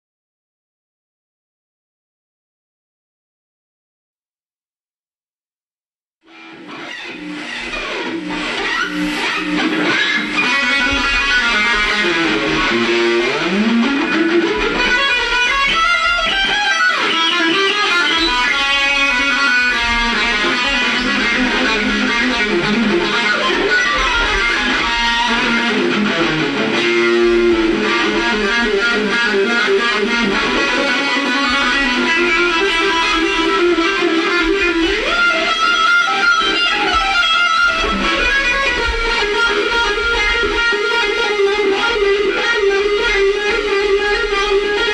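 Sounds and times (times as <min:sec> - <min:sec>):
electric guitar lead with bends: 0:06.3 - 0:44.9
band jamming: 0:07.2 - 0:44.9.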